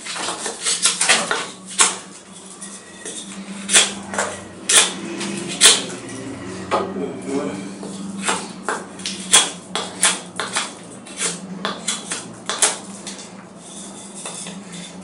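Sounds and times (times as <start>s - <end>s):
knife scraping wood: 0.0s - 6.0s, 7.7s - 15.0s.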